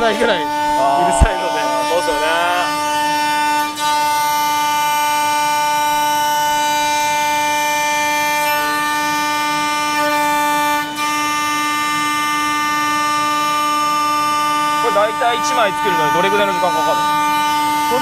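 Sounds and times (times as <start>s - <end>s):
wood router high-pitched whine: 0.0s - 18.0s.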